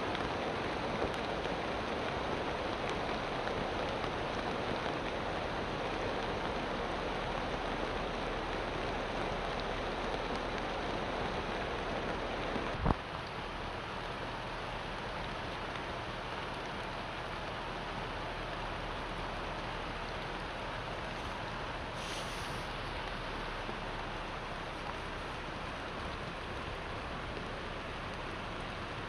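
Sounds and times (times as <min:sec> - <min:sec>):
rain drumming on plastic film: 0:00.0 - 0:29.0.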